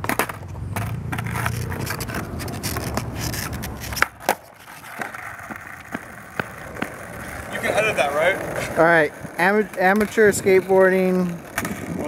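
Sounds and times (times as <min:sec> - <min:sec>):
skateboard clacking on pavement: 0:00.0 - 0:12.0
skateboard wheels rolling on asphalt: 0:00.0 - 0:12.0.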